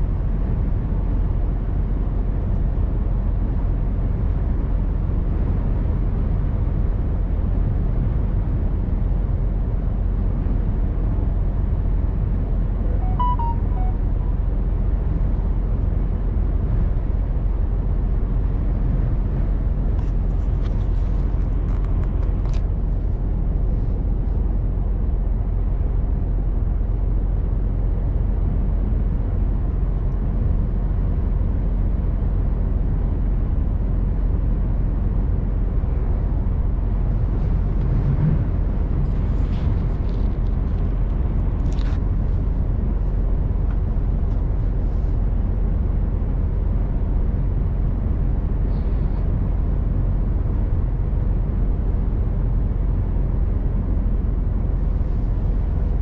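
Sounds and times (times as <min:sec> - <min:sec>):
road and cab noise: 0:00.0 - 0:56.0.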